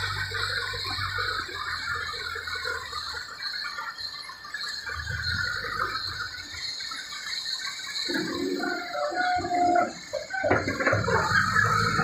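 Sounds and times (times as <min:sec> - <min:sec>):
diesel engine and hydraulics: 0:00.0 - 0:03.4, 0:04.0 - 0:07.3, 0:08.0 - 0:12.0
high-pitched chatter: 0:00.0 - 0:12.0.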